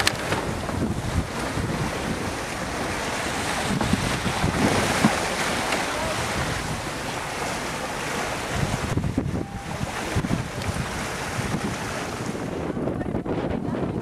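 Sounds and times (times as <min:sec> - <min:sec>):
water rushing past boat: 0:00.0 - 0:14.0
wind buffeting microphone: 0:00.0 - 0:14.0.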